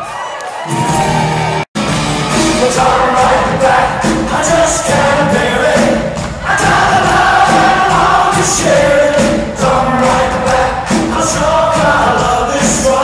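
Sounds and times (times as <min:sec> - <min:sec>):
pop-rock band playing live: 0:00.7 - 0:13.0
audience singing along: 0:02.0 - 0:13.0
singer singing: 0:02.2 - 0:13.0.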